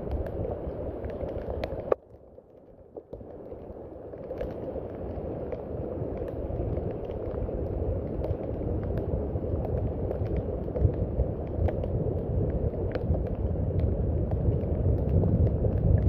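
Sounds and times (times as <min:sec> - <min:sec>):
raindrops ticking: 0:00.0 - 0:16.0
steady rain rushing: 0:00.0 - 0:16.0.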